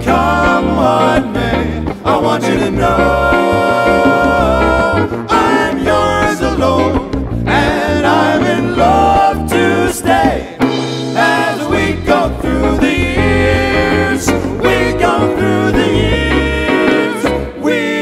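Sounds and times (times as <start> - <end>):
drum kit: 0.0 - 17.5
electric guitars: 0.0 - 18.0
men singing in harmony: 0.0 - 18.0.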